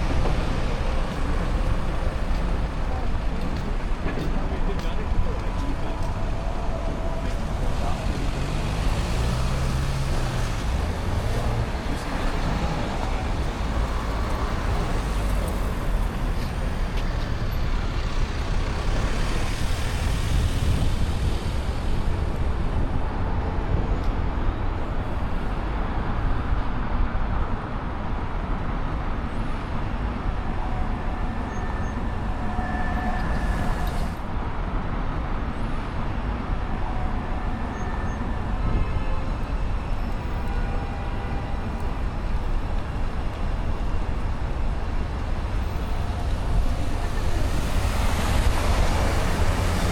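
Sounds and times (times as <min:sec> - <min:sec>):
rumble of passing traffic: 0:00.0 - 0:49.9.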